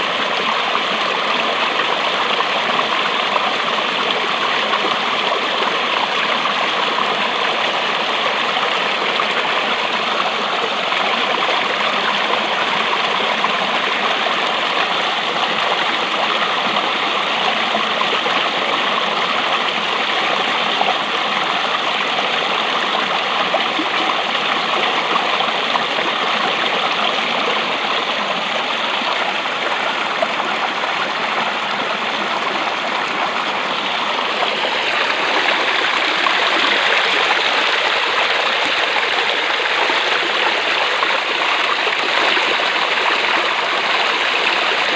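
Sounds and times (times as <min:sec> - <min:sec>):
running water rushing: 0:00.0 - 0:44.9.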